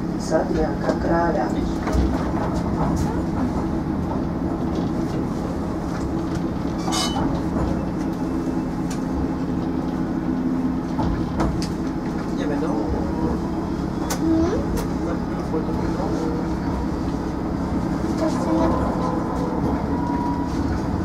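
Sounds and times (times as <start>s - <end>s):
tram motor hum: 0.0s - 21.0s.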